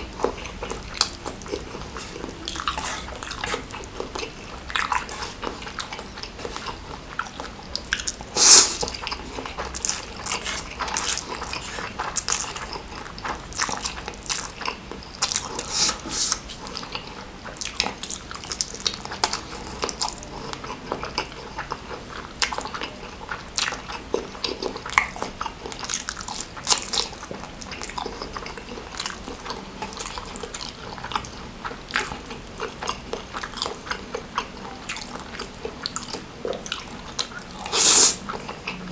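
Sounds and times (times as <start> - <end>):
wet chewing and biting: 0.0 - 38.9.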